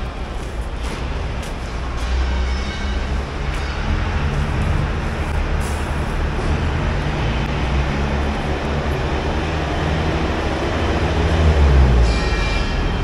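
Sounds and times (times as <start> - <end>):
large vehicle engine rumbling: 0.0 - 13.0.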